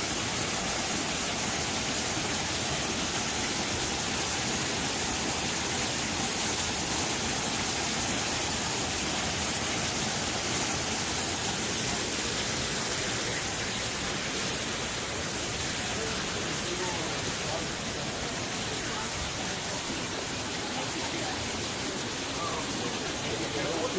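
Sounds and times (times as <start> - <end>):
fountain water splashing into pool: 0.0 - 23.9.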